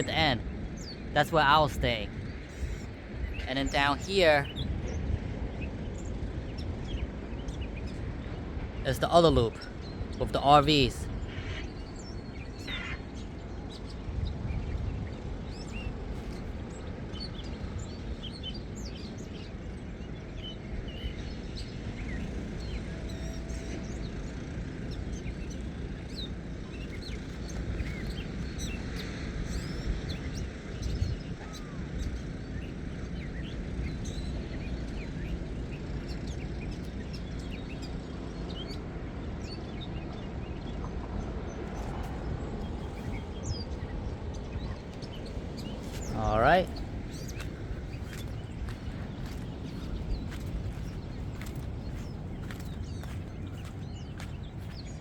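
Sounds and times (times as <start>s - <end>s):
low rumble of wind or surf: 0.0s - 55.0s
small birds chirping: 0.0s - 55.0s.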